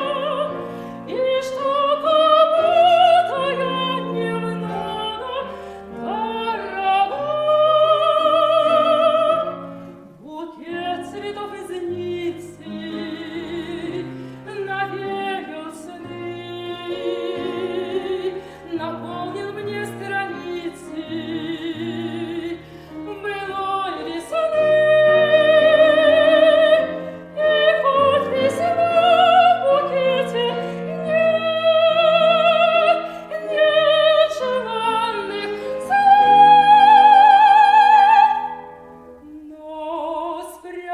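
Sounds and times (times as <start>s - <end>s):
soprano singing operatic style: 0.0s - 40.9s.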